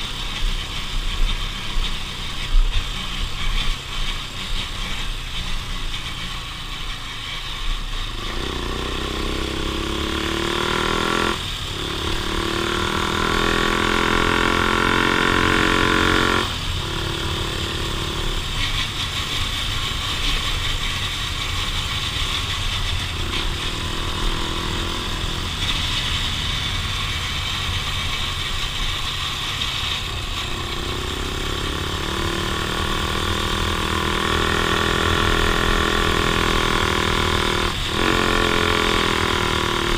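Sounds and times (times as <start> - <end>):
off-road vehicle engine accelerating: 0.0 - 39.9.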